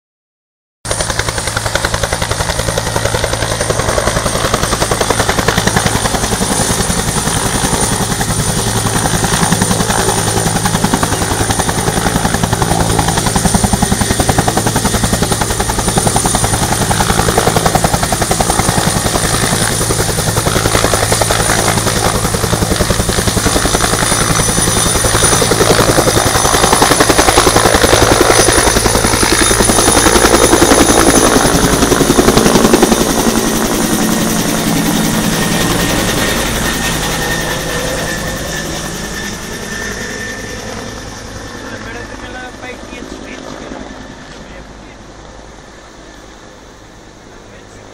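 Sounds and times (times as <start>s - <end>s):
helicopter rotor chopping: 0.9s - 47.9s
turbine whine: 0.9s - 47.9s.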